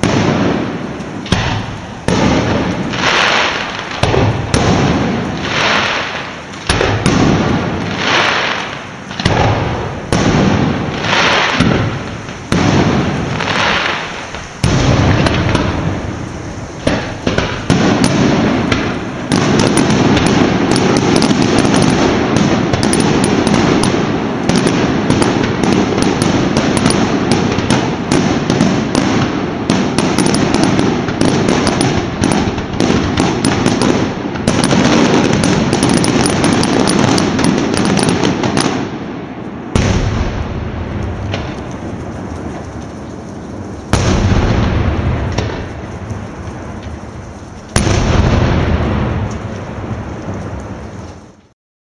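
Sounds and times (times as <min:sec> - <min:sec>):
firework bangs: 0:00.0 - 0:51.5
rapid firecracker crackle: 0:00.0 - 0:51.6.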